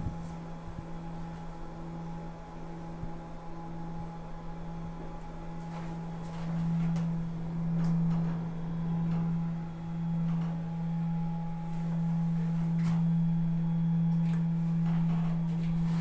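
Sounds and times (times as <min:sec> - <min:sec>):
higher whine: 0:00.0 - 0:16.0
hydraulic lift humming: 0:00.0 - 0:16.0.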